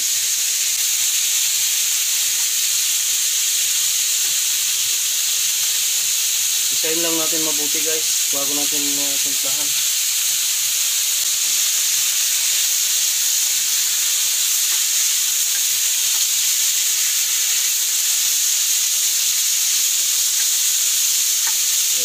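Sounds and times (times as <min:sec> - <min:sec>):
meat sizzling in a wok: 0:00.0 - 0:22.0.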